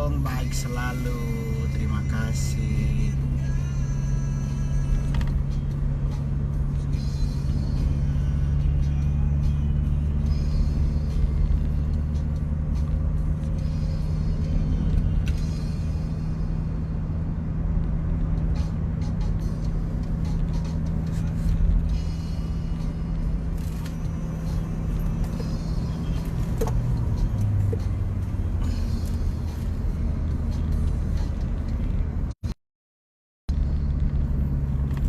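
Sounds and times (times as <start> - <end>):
low rumbling drone: 0.3 - 32.4.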